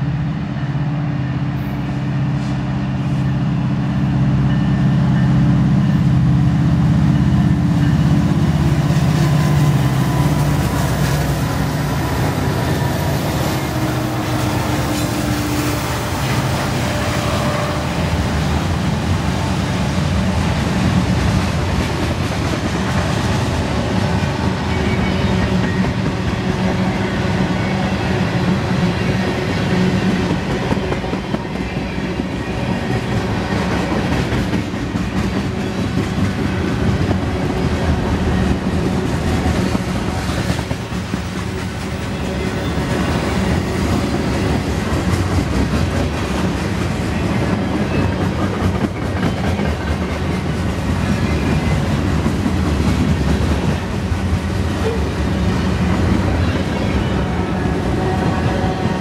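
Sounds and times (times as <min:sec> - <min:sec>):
freight train wheels clattering: 0:07.2 - 0:59.0.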